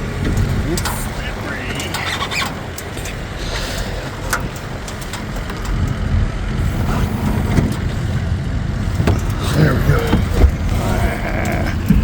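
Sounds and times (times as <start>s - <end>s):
small excavator engine running: 0.0s - 12.0s.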